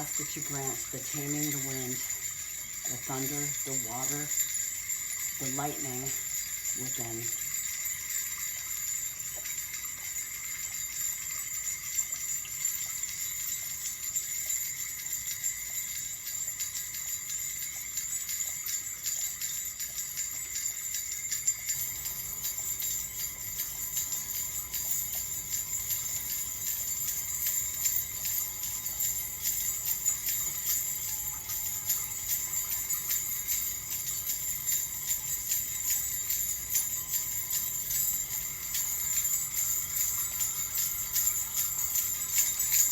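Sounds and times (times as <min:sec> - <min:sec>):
small bells jingling: 0:00.0 - 0:42.9.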